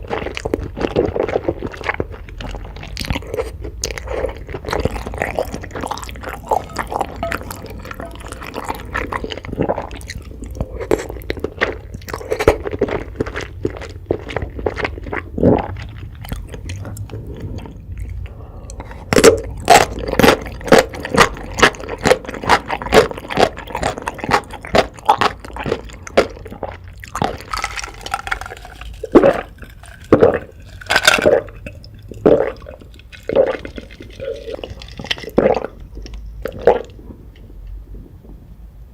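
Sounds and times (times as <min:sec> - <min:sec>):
chewing crunchy food: 0:00.0 - 0:38.5.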